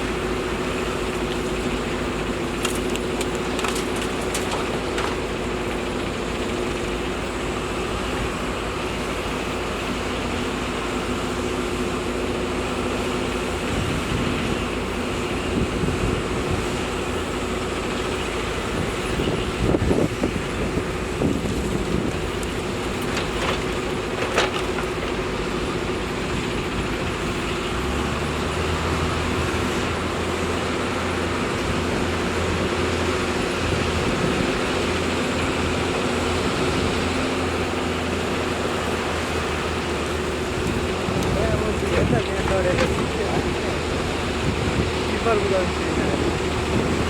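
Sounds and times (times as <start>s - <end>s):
heavy machinery engine running: 0.0s - 47.0s.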